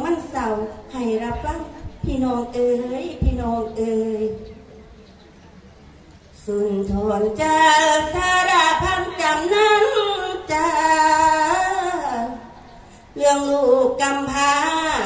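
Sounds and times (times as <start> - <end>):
women singing devotional chant: 0.0 - 4.5, 6.4 - 15.0.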